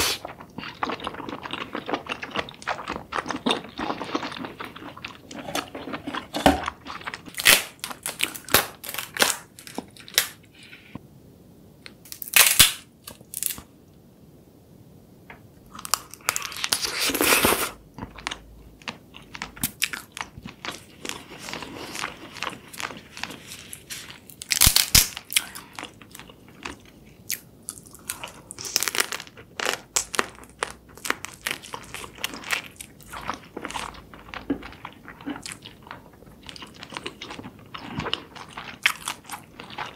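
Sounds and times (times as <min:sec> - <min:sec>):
crunching and wet chewing: 0:00.0 - 0:10.3, 0:15.7 - 0:39.9.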